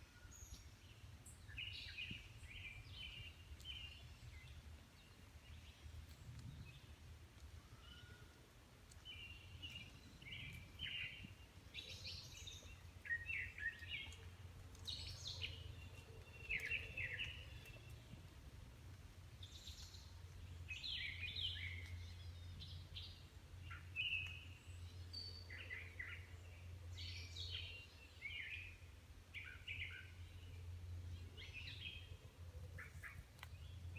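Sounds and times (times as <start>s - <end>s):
songbird chirping: 0.1s - 33.9s.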